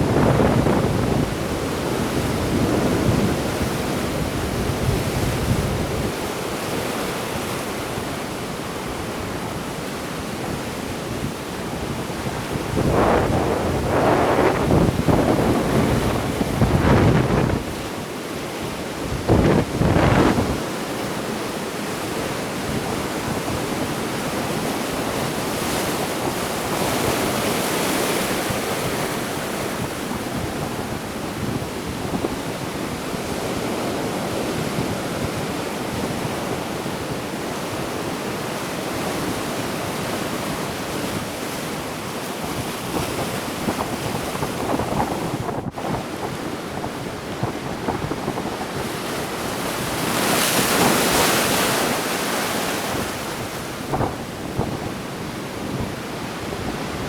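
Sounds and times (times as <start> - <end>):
wind rumbling on microphone: 0.0 - 6.9, 8.0 - 57.0
ocean waves washing on shore: 0.0 - 57.0.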